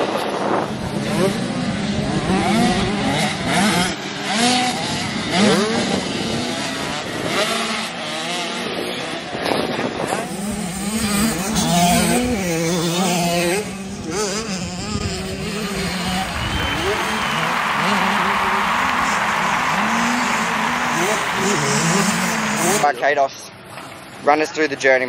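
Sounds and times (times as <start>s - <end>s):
motocross bike engines revving: 0.0s - 24.3s.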